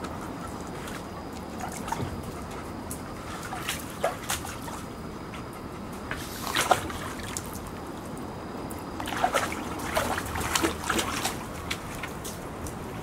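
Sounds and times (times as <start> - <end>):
puppies splashing in water: 0.0 - 13.0.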